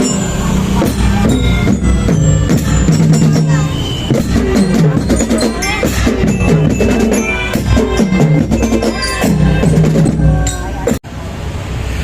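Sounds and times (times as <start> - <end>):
marching band melody: 0.0 - 11.0
snare and bass drums: 0.0 - 11.0.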